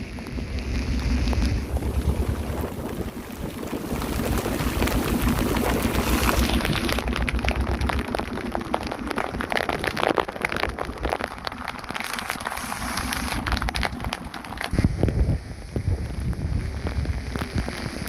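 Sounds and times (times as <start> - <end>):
heavy rain falling: 0.0 - 18.0
wind rumble on microphone: 0.0 - 18.0.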